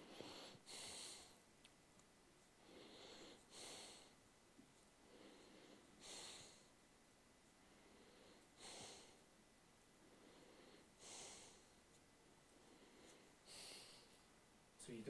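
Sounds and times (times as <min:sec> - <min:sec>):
faint breathing: 0:00.0 - 0:01.5, 0:02.4 - 0:06.8, 0:07.4 - 0:14.4.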